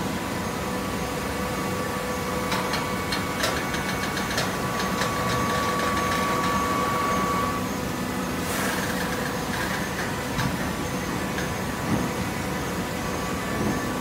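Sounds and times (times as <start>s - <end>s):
faint machine whine: 0.0s - 14.0s.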